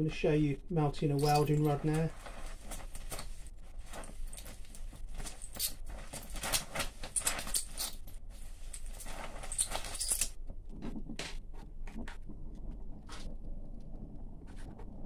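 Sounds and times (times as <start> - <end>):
sparks crackling and popping: 1.2 - 15.0.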